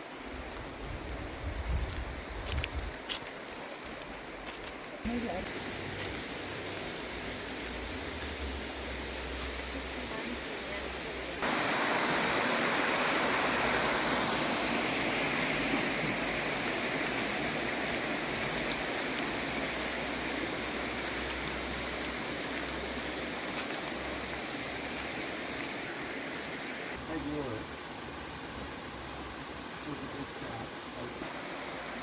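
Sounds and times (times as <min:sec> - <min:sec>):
creek water rushing over rocks: 0:00.0 - 0:32.0.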